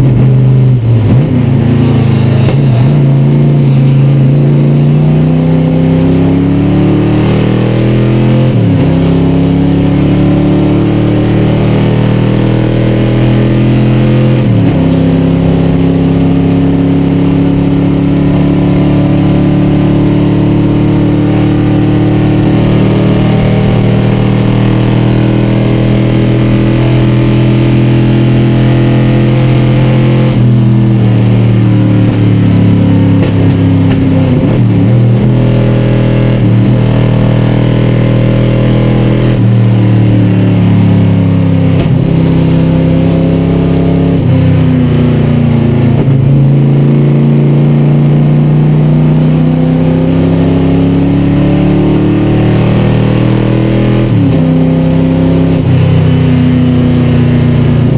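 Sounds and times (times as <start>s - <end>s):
car engine at racing pace: 0.0s - 57.9s.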